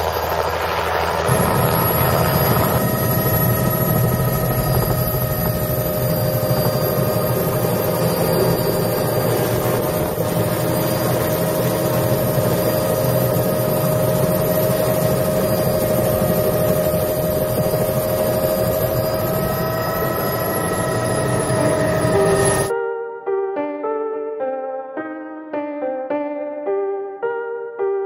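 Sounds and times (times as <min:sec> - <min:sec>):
helicopter rotor rumble: 0:00.0 - 0:22.7
helicopter turbine whine: 0:00.0 - 0:22.7.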